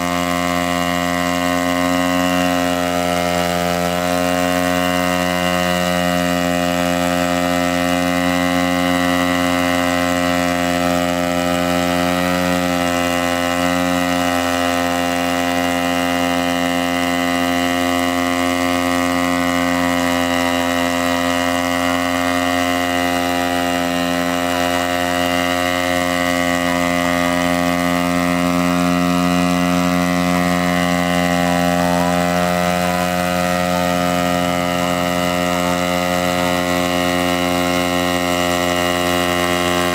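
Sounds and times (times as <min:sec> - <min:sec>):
drone propellers whirring: 0:00.0 - 0:39.9
petrol engine running: 0:00.0 - 0:39.9.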